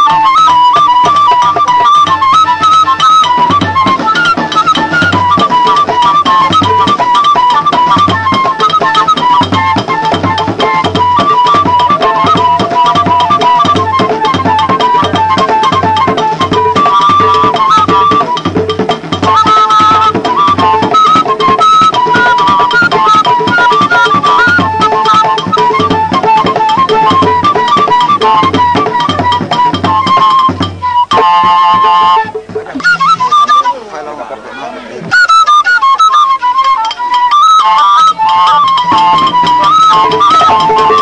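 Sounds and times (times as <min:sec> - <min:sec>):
high stepping melody: 0:00.0 - 0:41.0
repeating drum beat: 0:00.8 - 0:34.0, 0:36.4 - 0:41.0.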